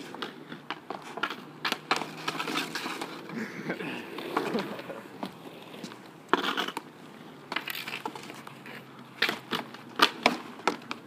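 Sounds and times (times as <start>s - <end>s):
hockey sticks clacking on pavement: 0.0s - 11.0s.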